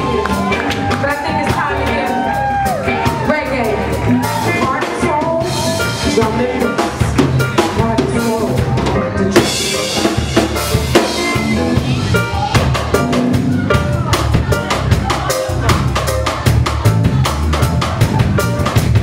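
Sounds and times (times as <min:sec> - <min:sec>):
bass line: 0:00.0 - 0:19.0
drum kit: 0:00.0 - 0:19.0
reggae band playing: 0:00.0 - 0:19.0.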